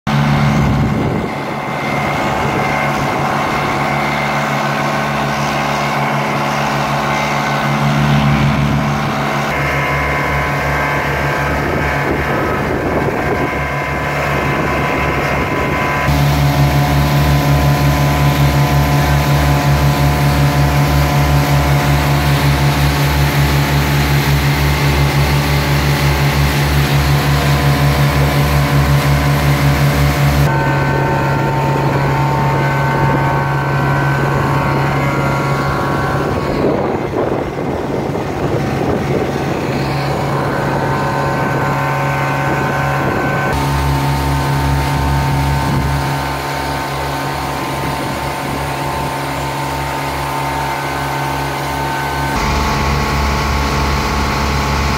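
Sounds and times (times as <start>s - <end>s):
lorry blower and engine droning: 0.1s - 54.9s.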